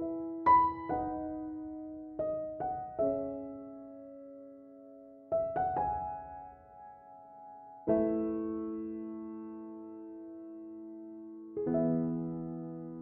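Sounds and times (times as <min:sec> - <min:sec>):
slow soft piano music: 0:00.0 - 0:13.0.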